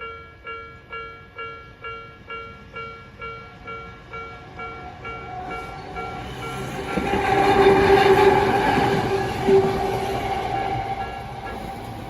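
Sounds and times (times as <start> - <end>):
train passing on rails: 0.0 - 12.0.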